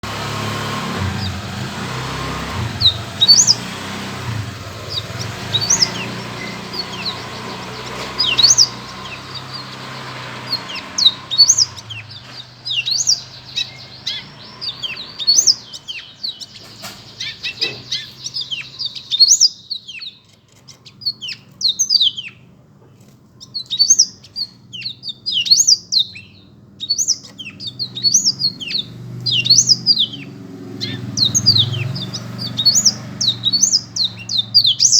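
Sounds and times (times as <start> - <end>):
canary singing: 0.0 - 34.9.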